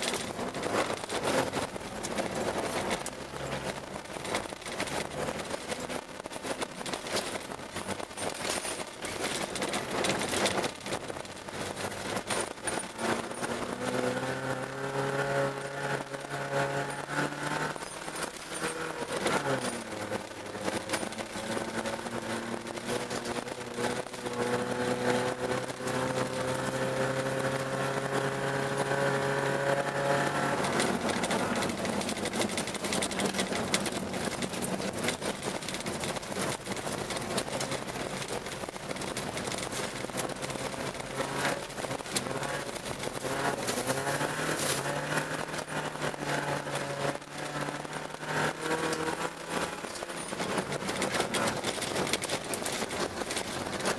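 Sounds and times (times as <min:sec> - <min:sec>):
car engine from inside cabin: 0:00.0 - 0:53.9
tyre noise on snow: 0:00.0 - 0:53.9.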